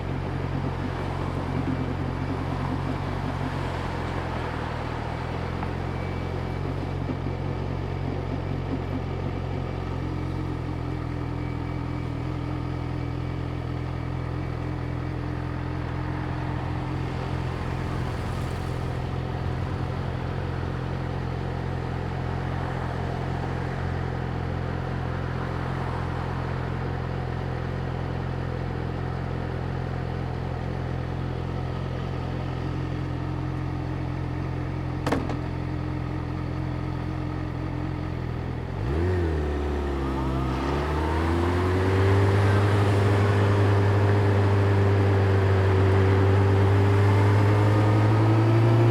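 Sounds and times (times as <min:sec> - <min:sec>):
motorcycle engine idling: 0:00.0 - 0:48.9.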